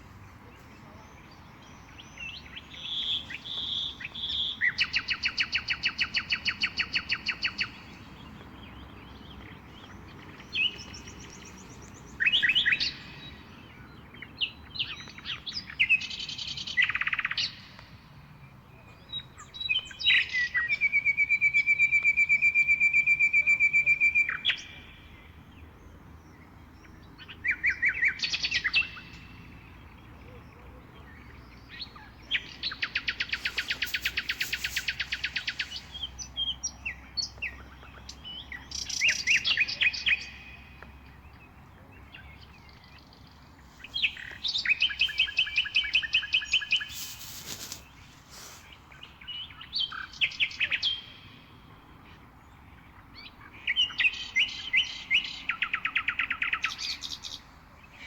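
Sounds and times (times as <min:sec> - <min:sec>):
songbird singing trills: 0:00.0 - 0:18.1, 0:18.7 - 0:58.0.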